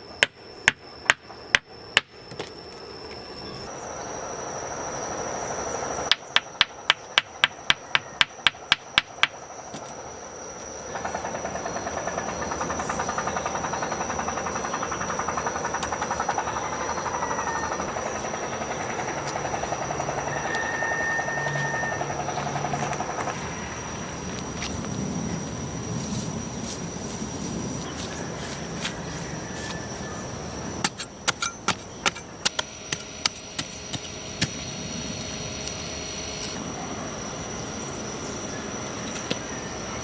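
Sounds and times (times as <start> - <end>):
thin high whine: 2.5 - 40.0.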